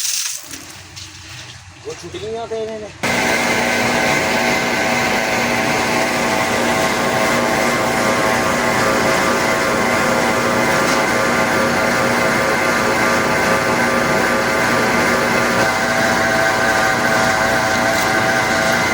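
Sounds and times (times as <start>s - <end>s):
factory machinery humming: 2.9s - 18.9s.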